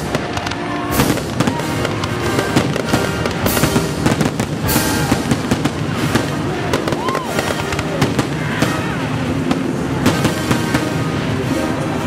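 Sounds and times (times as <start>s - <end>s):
fireworks bangs and crackle: 0.0s - 12.0s
orchestral music: 0.0s - 12.0s.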